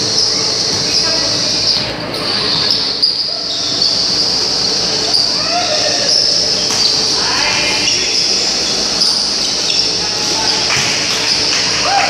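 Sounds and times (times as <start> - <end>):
voices and shouts in a gym: 0.0 - 12.0.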